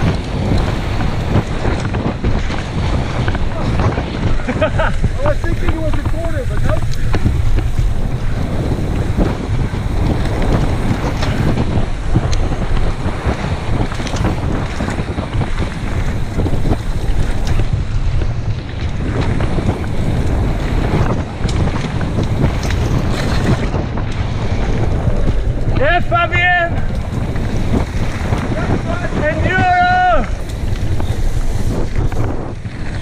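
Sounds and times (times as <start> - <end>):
bike knocking and rattling: 0.0 - 33.0
tyres rolling on dirt trail: 0.0 - 33.0
wind buffeting microphone: 0.0 - 33.0.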